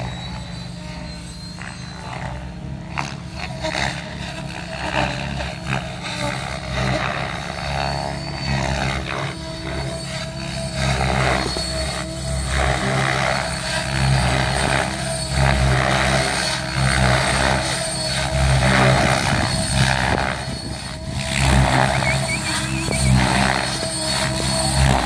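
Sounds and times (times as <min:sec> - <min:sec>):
high motor whine: 0:00.0 - 0:25.0
rotor blades rushing: 0:00.0 - 0:25.0.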